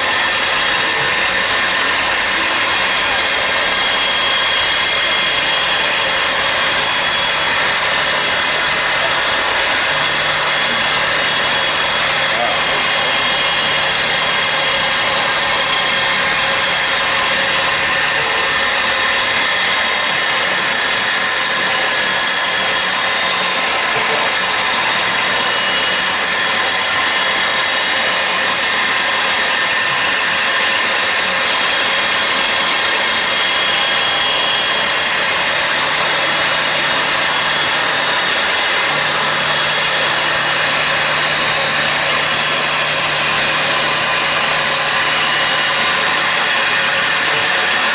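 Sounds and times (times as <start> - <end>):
machine whir with steady tones: 0.0 - 47.9.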